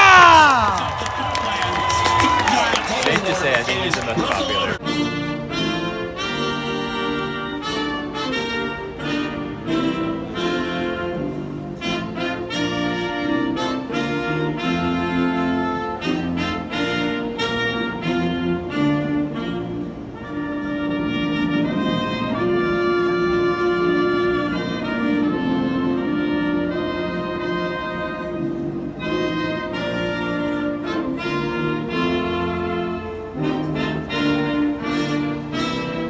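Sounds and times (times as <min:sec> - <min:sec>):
brass music with trumpets and trombones: 0:00.0 - 0:36.0.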